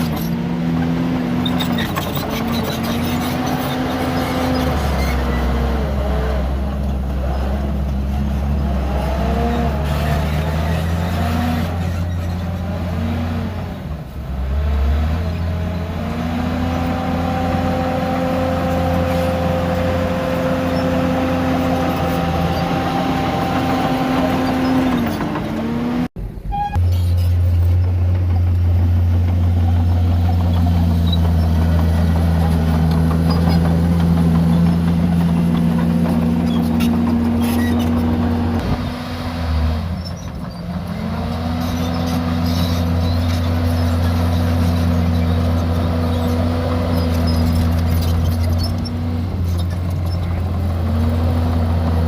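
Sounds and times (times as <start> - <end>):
heavy diesel machinery revving: 0.0 - 26.2, 27.1 - 52.0.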